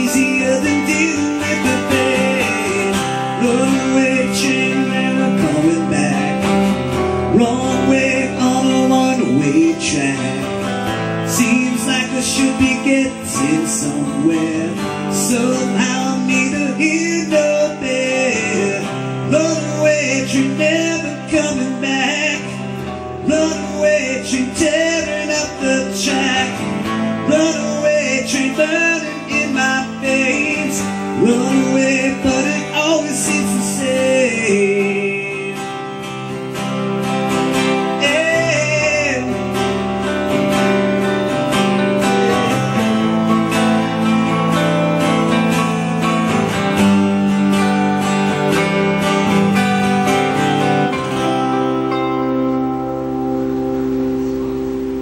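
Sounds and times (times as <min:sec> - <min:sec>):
acoustic guitar strumming chords: 0:00.0 - 0:55.0
electric guitar lead melody: 0:00.0 - 0:55.0.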